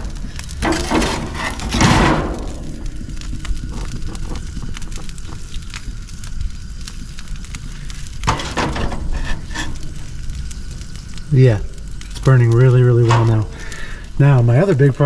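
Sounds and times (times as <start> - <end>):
gas grill burners rushing: 0.0 - 15.0
hot grates crackling and ticking: 0.0 - 15.0.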